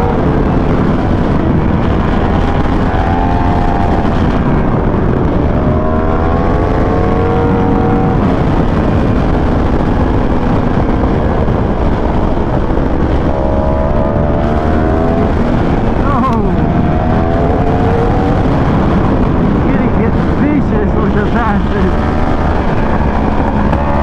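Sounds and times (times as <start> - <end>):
motorcycle engine accelerating: 0.0 - 24.0
wind rush: 0.0 - 24.0.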